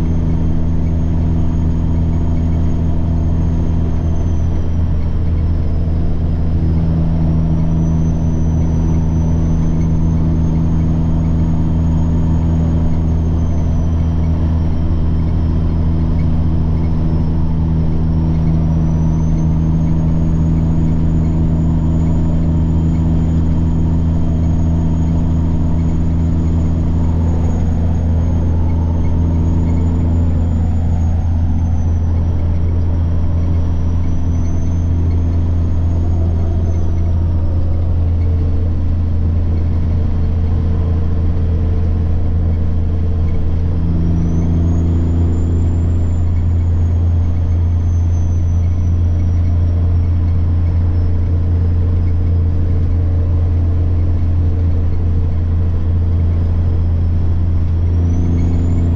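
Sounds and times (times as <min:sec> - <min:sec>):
diesel truck engine running: 0:00.0 - 0:58.9
turbocharger whine: 0:00.0 - 0:58.9.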